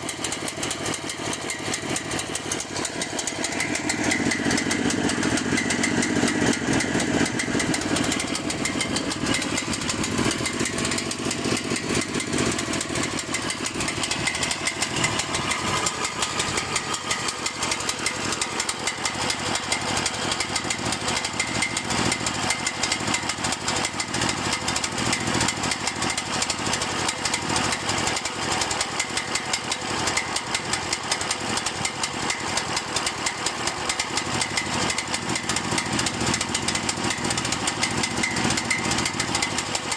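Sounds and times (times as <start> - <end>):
small excavator engine idling: 0.0 - 39.9.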